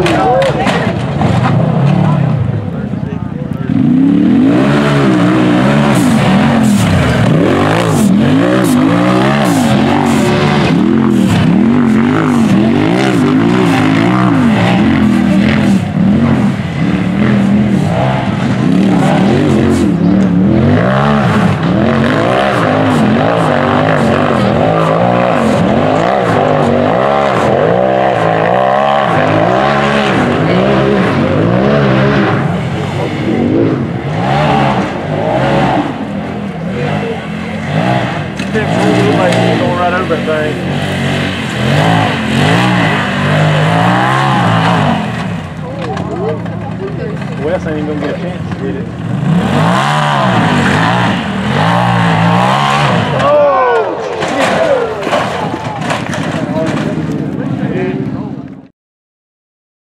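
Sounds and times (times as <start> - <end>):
buggy engine revving: 0.0 - 58.7.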